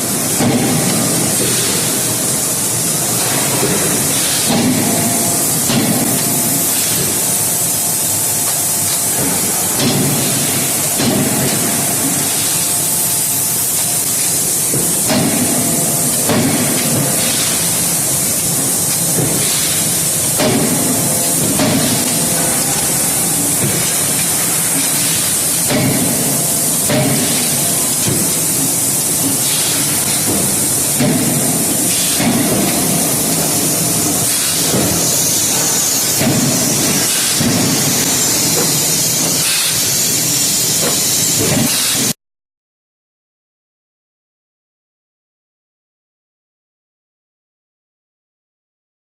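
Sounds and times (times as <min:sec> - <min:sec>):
loud steady hiss: 0:00.0 - 0:42.2.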